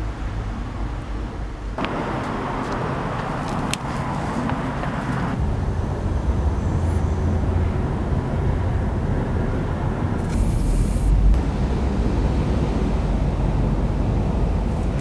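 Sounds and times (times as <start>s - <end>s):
car road and drivetrain rumble: 0.0s - 15.0s.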